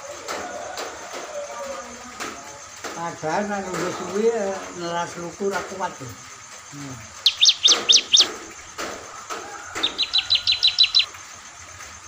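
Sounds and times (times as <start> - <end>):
songbird chirping: 0.8 - 11.2.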